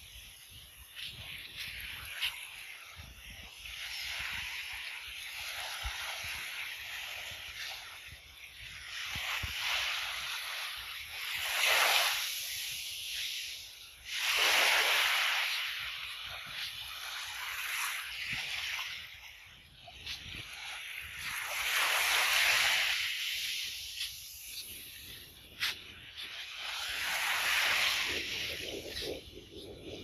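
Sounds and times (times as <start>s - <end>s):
small waves washing on sand: 0.0s - 30.0s.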